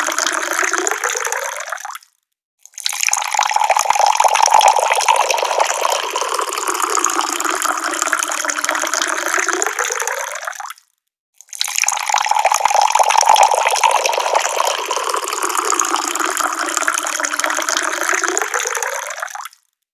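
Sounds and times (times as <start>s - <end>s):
tap water pouring: 0.0s - 2.0s, 2.7s - 10.8s, 11.4s - 19.6s.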